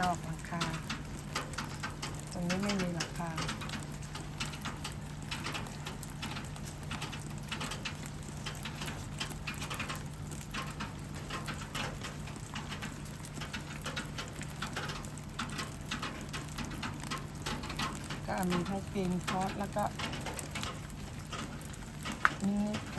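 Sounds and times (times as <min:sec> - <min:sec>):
light rain pattering: 0:00.0 - 0:22.9.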